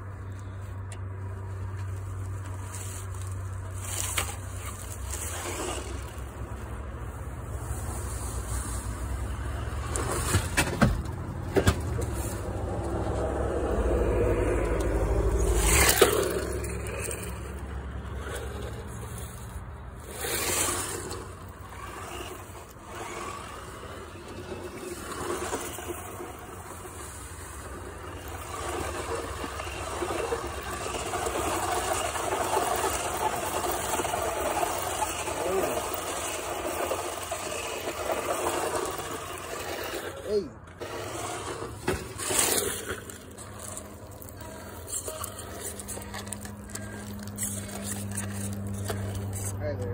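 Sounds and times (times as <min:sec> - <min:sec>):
rc truck tyres scraping dirt: 0:00.0 - 0:49.9.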